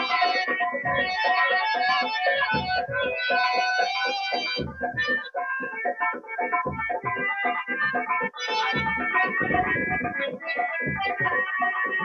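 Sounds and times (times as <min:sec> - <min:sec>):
steady beat: 0:00.0 - 0:01.4, 0:02.2 - 0:03.4, 0:04.6 - 0:12.0
electronic keyboard melody: 0:00.0 - 0:12.0.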